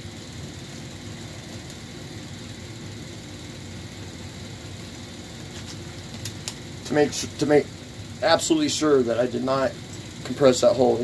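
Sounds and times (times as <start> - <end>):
machine humming with hiss: 0.0 - 11.0.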